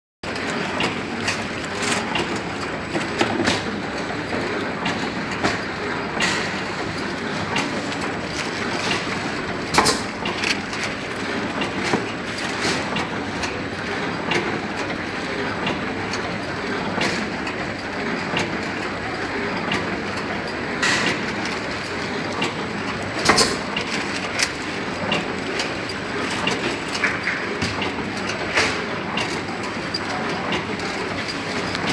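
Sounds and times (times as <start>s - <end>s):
packing machine clattering: 0.3s - 31.9s.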